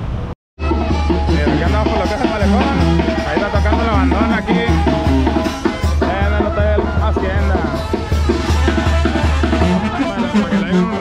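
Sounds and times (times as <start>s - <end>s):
brass band playing: 0.6s - 11.0s
drums: 0.6s - 11.0s
tuba bass line: 0.6s - 11.0s.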